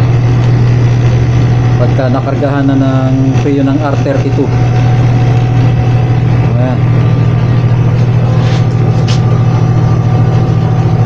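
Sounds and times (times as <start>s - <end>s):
vacuum pump pulsing hum: 0.0s - 11.0s.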